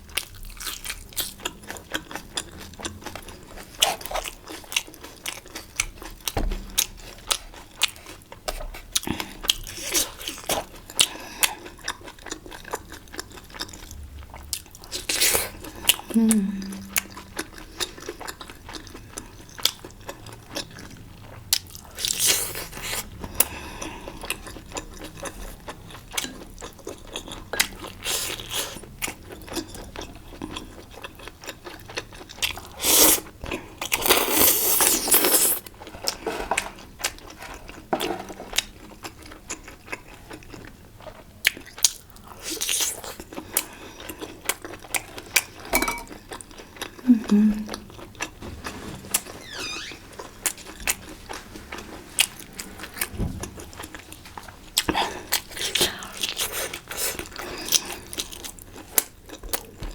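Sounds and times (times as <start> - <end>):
chewing and crunching: 0.0 - 16.2, 16.8 - 49.3, 50.1 - 59.9.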